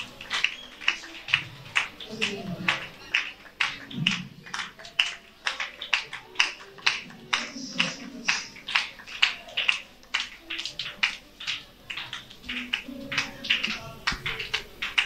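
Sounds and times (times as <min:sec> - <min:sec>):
faint voices: 0:00.0 - 0:15.0
group hand clapping: 0:00.0 - 0:15.0.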